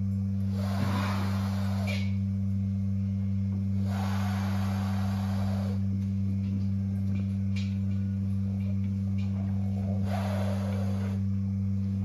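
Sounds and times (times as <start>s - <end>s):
steady low two-pitch hum: 0.0s - 12.0s.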